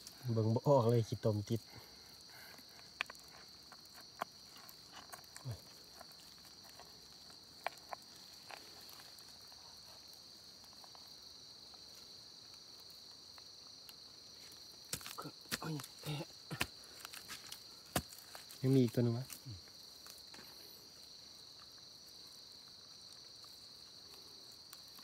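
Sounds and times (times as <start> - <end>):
insect chorus: 0.0 - 25.0.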